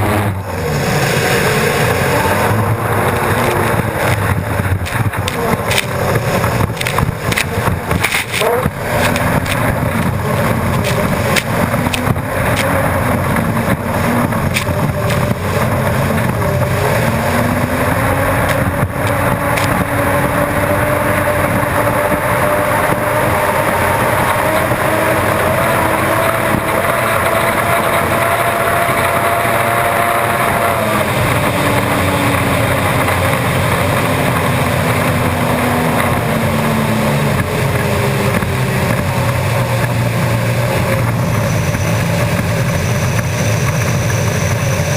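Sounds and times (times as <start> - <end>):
turbine engine roaring with whine: 0.0 - 44.9.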